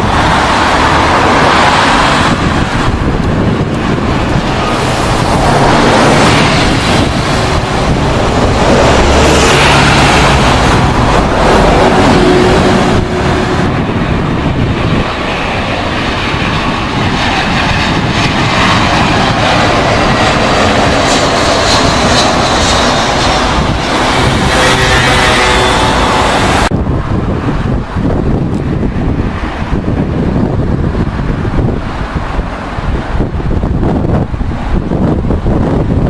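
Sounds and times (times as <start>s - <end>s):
jet engines roaring: 0.0s - 36.0s
wind buffeting microphone: 0.0s - 36.0s.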